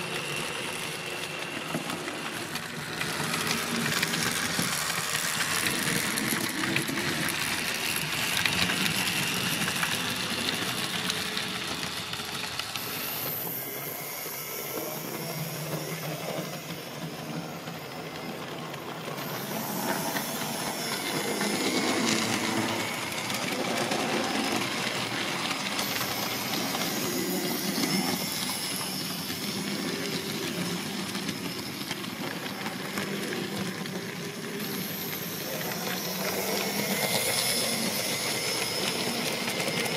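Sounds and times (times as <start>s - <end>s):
model trains running on track: 0.0s - 39.9s
steam locomotive hissing: 0.0s - 39.9s.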